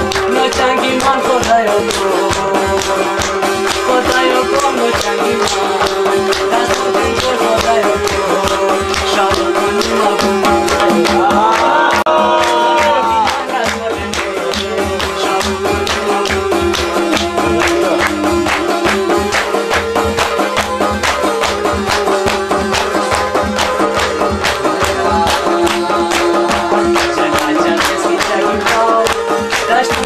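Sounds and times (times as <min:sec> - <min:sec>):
man singing: 0:00.0 - 0:19.7, 0:24.0 - 0:30.0
hand percussion: 0:00.0 - 0:30.0
keyboard: 0:00.0 - 0:30.0.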